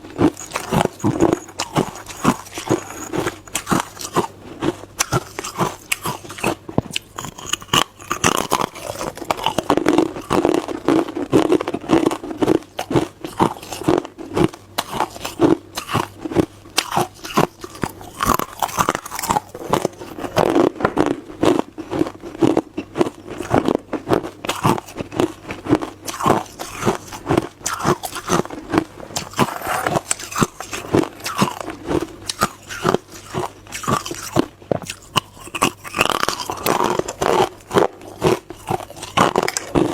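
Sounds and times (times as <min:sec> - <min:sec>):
person crunching ice: 0:00.1 - 0:16.2, 0:16.8 - 0:39.9.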